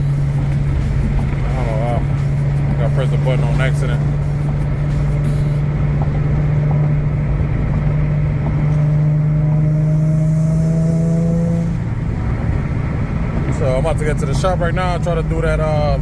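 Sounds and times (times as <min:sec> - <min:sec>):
car exhaust droning: 0:00.0 - 0:16.0.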